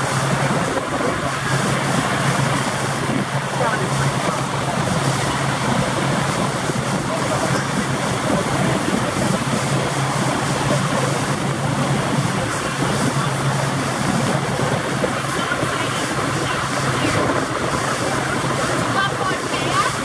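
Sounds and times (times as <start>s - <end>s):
boat motor humming: 0.0s - 20.0s
water and air rushing: 0.0s - 20.0s.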